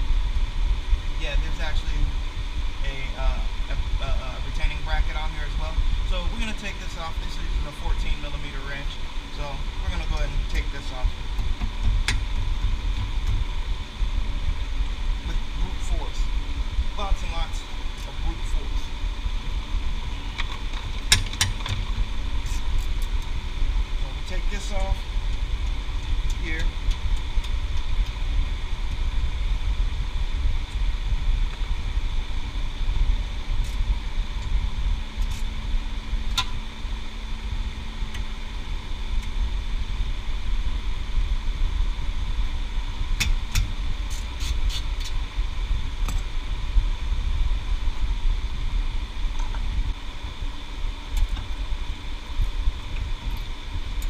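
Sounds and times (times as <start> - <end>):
low background rumble and hum: 0.0 - 54.0.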